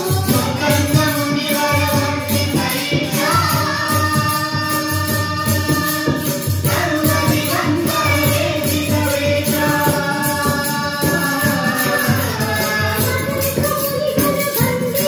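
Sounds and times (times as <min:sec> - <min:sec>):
steady percussion beat: 0:00.0 - 0:15.0
voices singing: 0:00.0 - 0:15.0.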